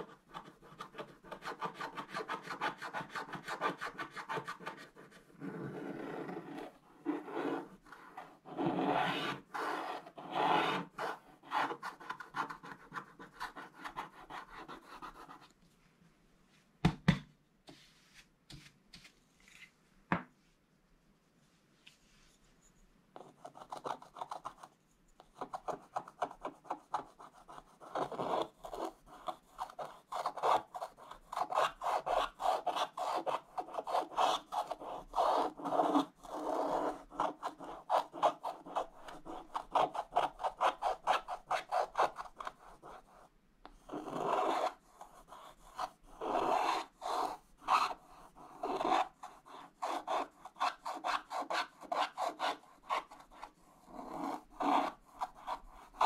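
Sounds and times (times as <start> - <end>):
stylus scratching paper: 0.0 - 15.5, 23.2 - 56.0.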